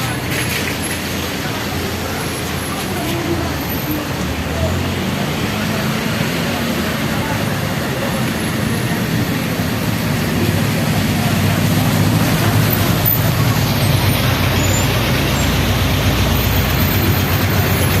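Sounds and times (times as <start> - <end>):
tyres on wet road: 0.0 - 18.0
vehicle engines running: 0.0 - 18.0.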